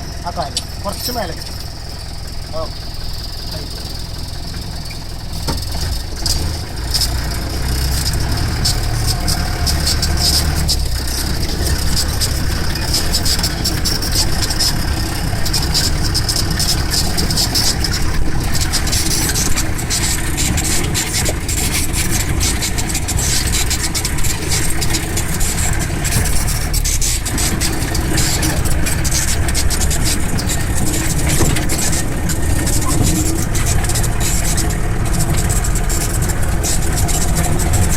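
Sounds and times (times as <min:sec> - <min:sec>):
vehicle engine running: 0:00.0 - 0:37.9
vehicle knocks and rattles: 0:00.0 - 0:37.9.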